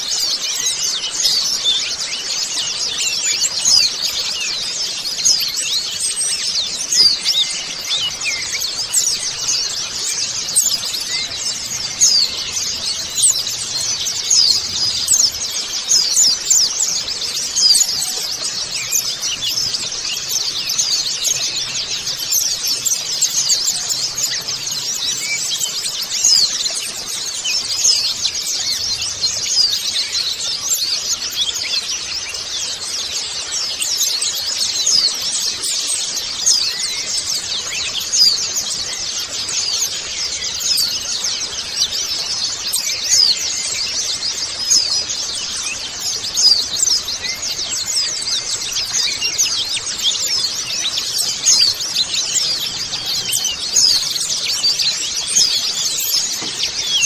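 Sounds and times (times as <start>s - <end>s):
birds twittering chorus: 0.0s - 57.0s.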